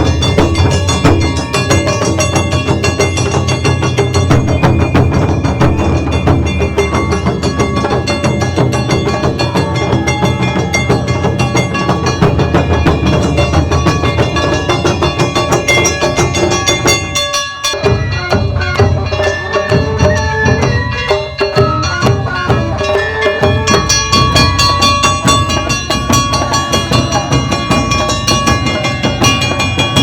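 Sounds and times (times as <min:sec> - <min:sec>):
sustained pitched instruments: 0:00.0 - 0:30.0
taiko drumming: 0:00.0 - 0:30.0.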